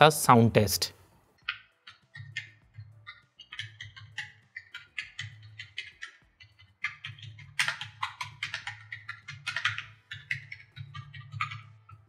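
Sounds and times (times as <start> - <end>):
fast typing on a keyboard: 1.4 - 12.0.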